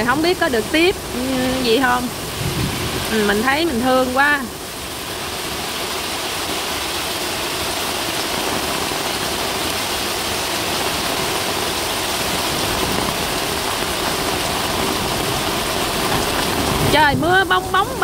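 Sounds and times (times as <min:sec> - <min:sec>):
heavy rain on paving and plants: 0:00.0 - 0:18.0.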